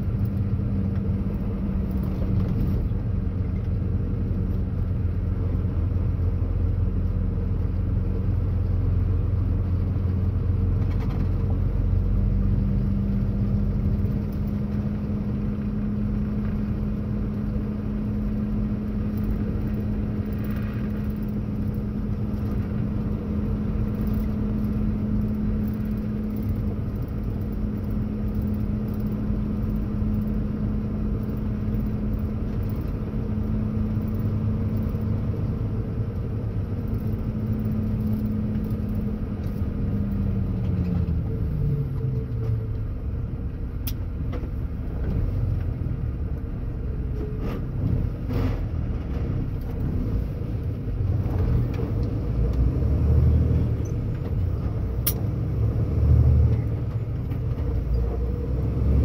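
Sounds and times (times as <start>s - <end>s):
diesel truck engine rumble: 0.0s - 59.0s.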